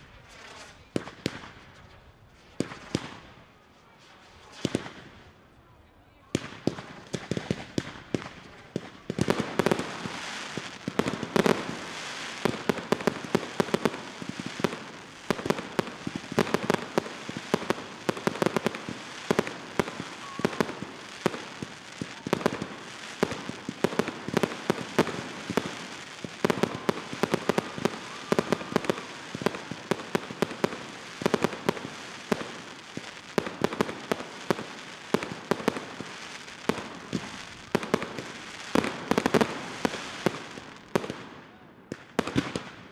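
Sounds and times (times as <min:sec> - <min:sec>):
fireworks bangs and cracks: 0:00.0 - 0:05.4, 0:06.3 - 0:42.9
fireworks crackling hiss: 0:00.0 - 0:05.4, 0:06.4 - 0:41.4.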